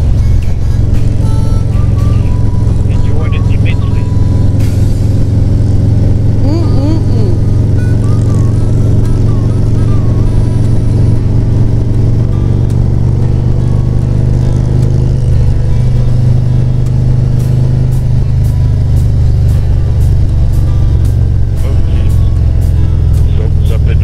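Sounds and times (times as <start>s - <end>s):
motorcycle engine cruising: 0.0s - 24.0s
road and wind noise: 0.0s - 24.0s.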